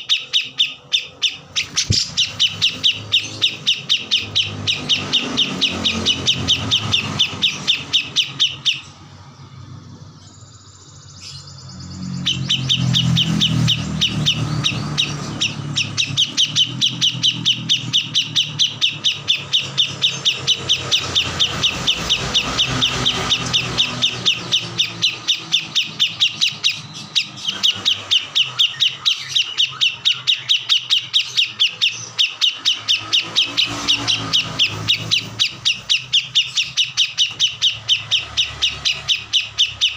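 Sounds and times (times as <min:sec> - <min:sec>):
songbird quick high chirps: 0:00.0 - 0:09.1, 0:09.8 - 0:39.9.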